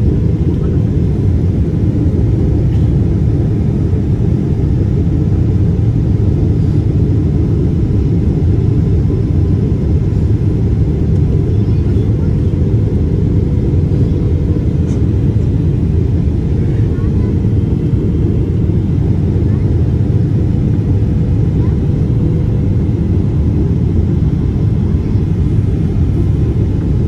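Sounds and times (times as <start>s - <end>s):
airplane cabin rumble: 0.0s - 27.0s.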